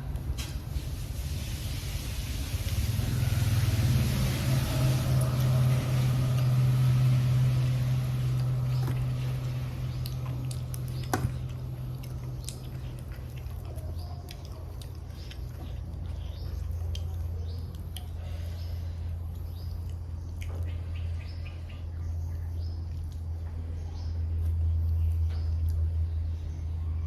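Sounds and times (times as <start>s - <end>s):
low hum: 2.4s - 27.0s
chewing with wet crunches: 2.5s - 27.0s.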